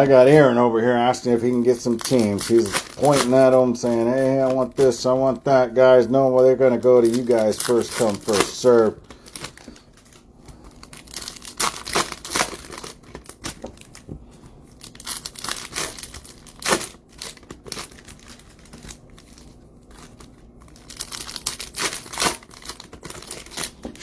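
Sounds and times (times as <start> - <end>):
plastic packaging crinkling and tearing: 0.0 - 24.0.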